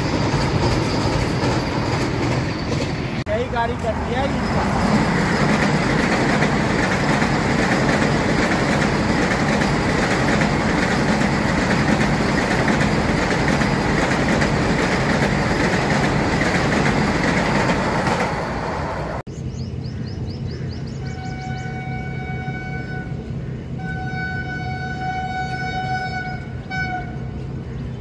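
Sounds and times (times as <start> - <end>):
train passing at speed: 0.0 - 28.0.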